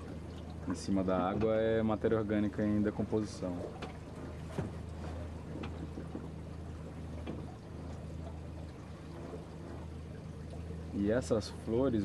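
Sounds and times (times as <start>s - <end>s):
boat motor humming: 0.0s - 12.0s
water lapping and trickling: 0.0s - 12.0s.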